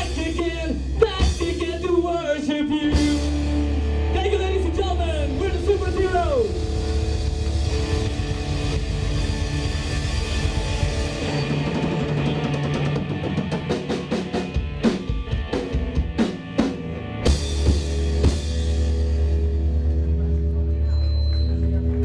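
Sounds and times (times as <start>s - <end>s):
drum and cymbal hits: 0.0s - 2.2s, 2.9s - 4.0s, 4.8s - 19.4s
live rock band playing: 0.0s - 22.0s.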